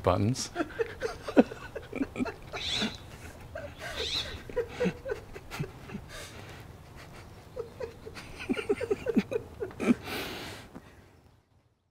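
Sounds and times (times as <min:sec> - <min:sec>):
man laughing quietly: 0:00.4 - 0:10.6.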